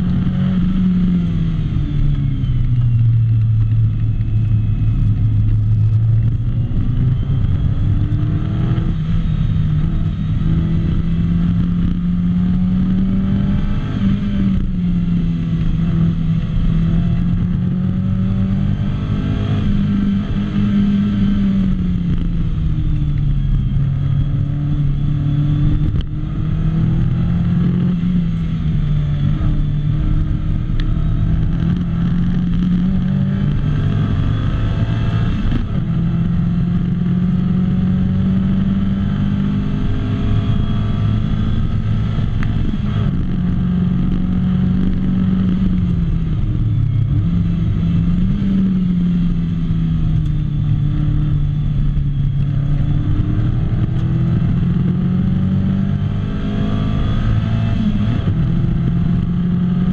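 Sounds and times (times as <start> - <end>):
race car engine accelerating: 3.6 - 59.9.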